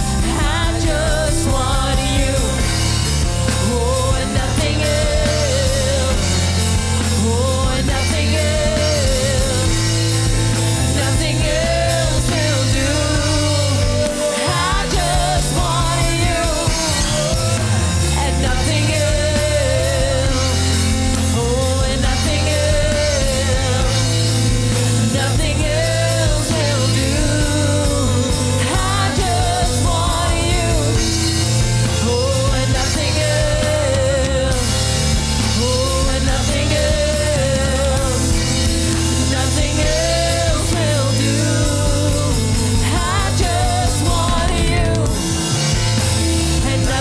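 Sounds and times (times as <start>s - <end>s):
person singing: 0.0s - 47.0s
worship band playing: 0.0s - 47.0s.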